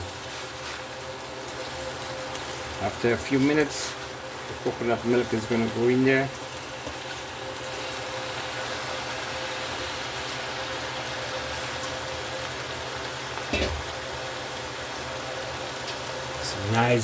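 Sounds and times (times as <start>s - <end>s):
pot steaming on burner: 0.0s - 17.0s.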